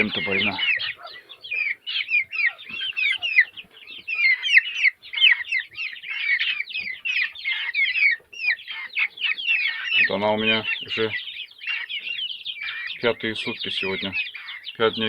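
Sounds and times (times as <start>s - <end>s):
chickens cheeping: 0.0s - 15.0s.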